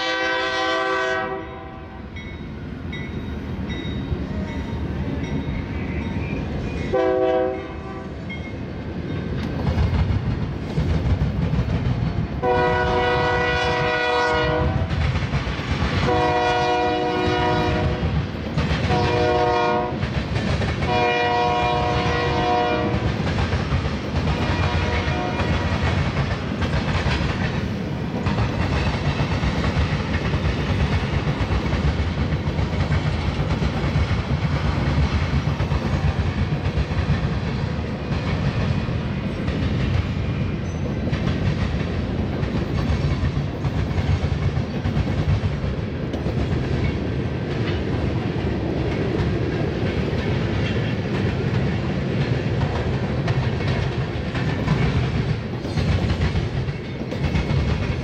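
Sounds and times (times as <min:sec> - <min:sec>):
low train rumble: 0:00.0 - 0:58.0
train wheels clattering over crossing: 0:02.2 - 0:58.0.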